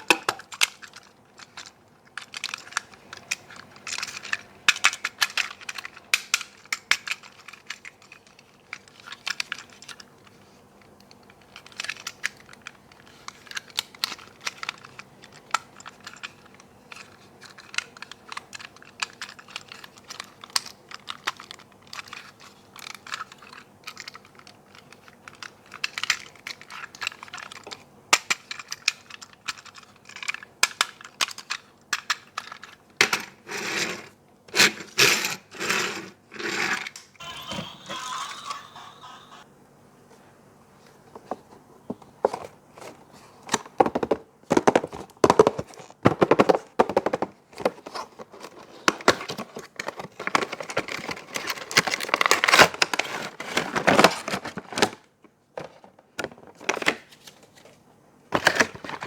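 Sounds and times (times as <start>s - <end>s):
plastic toy cars clicking and rattling: 0.0s - 37.5s, 42.3s - 57.7s, 58.3s - 59.0s.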